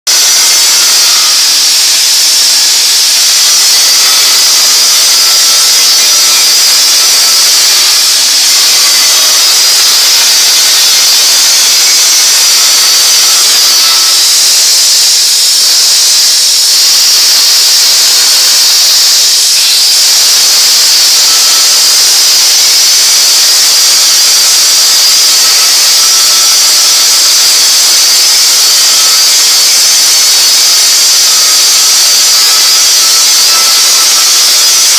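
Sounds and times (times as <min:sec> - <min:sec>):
cutting torch hissing: 0:00.1 - 0:34.9.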